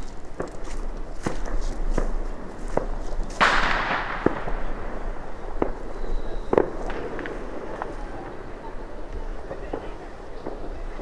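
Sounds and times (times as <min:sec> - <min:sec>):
firecracker bangs: 0:00.0 - 0:11.0.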